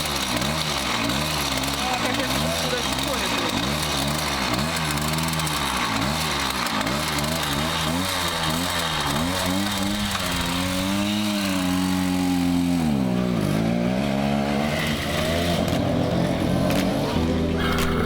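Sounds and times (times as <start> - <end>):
moped engine revving: 0.0 - 18.0.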